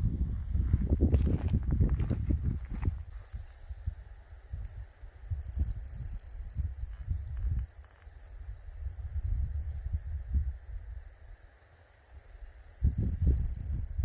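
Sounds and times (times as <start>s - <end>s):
crickets trilling: 0.0s - 1.9s, 2.8s - 14.0s
wind rumble on microphone: 0.0s - 11.5s, 12.4s - 14.0s.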